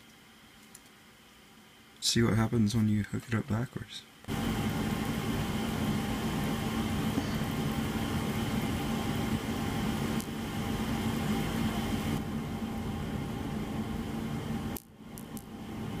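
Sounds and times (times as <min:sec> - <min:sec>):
machine hum and whir: 0:00.0 - 0:16.0.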